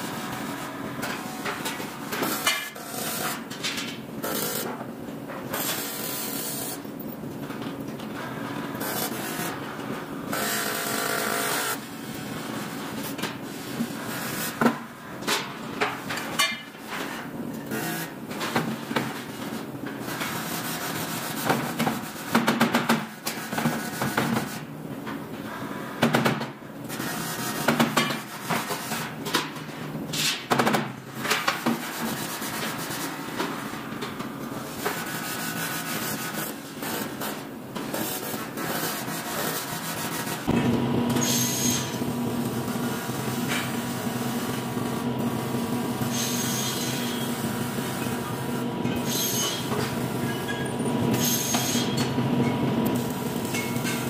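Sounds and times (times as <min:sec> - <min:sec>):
steady background noise: 0:00.0 - 0:54.0.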